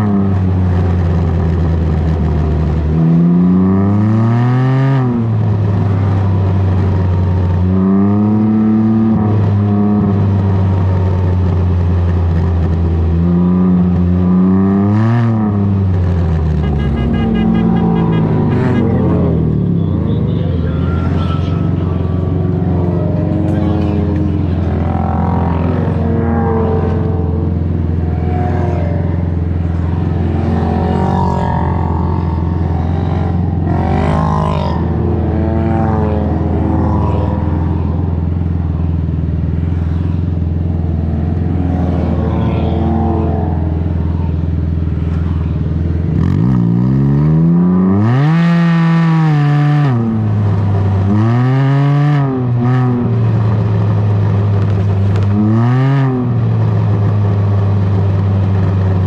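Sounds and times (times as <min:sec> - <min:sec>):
three-wheeler engine revving: 0:00.0 - 0:59.0.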